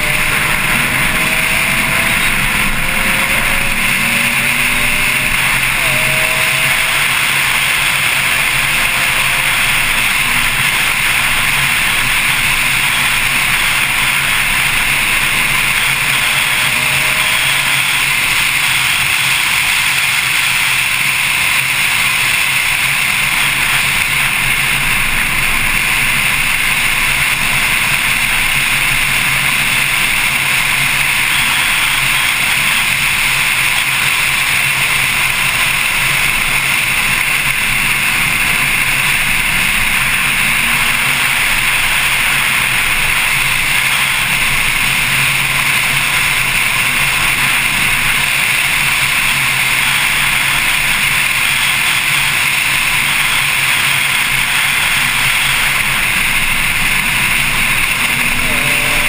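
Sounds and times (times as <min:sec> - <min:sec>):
low engine note: 0:00.0 - 0:59.0
wind and road noise: 0:00.0 - 0:59.0.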